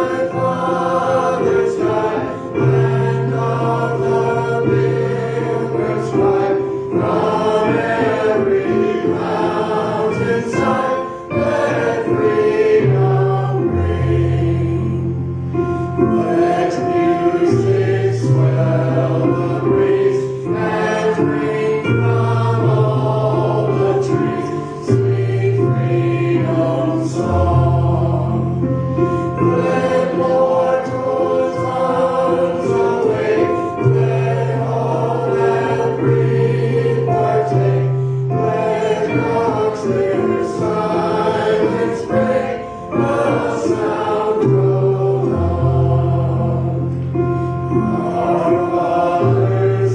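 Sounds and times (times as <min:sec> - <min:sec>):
choir singing gospel song: 0:00.0 - 0:49.9.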